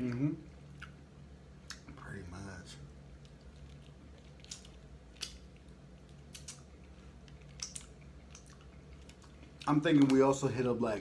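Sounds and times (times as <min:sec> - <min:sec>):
people chewing food: 0:00.0 - 0:02.2, 0:02.8 - 0:10.6
steady low hum: 0:00.0 - 0:11.0.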